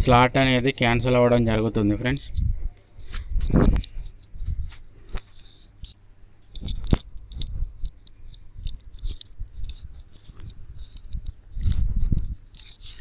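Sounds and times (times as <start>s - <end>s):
small clicks and rustles: 2.2s - 13.0s.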